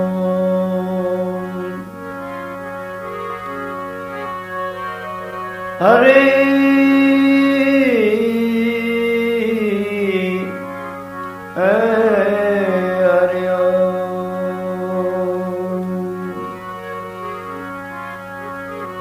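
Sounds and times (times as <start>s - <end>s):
harmonium drone: 0.0s - 19.0s
person singing devotional song: 0.0s - 19.0s.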